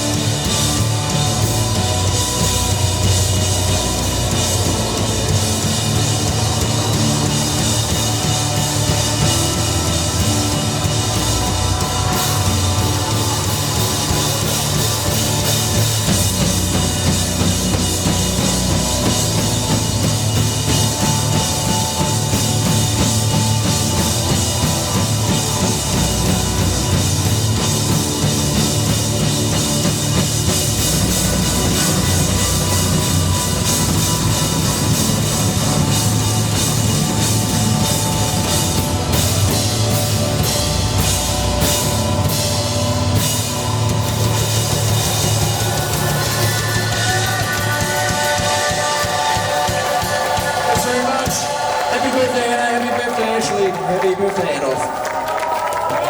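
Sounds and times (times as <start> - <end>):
heavy bass line: 0.0 - 52.9
drum kit: 0.0 - 56.0
heavy metal band playing: 0.0 - 56.0.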